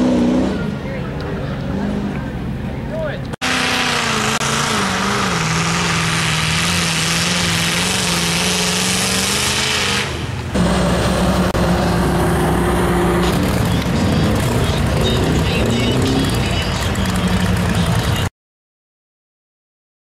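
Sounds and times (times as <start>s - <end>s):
truck engine running hard: 0.0s - 18.3s.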